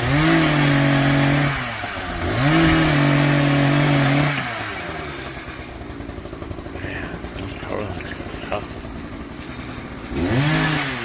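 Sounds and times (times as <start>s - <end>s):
two-stroke chainsaw revving: 0.0s - 11.0s.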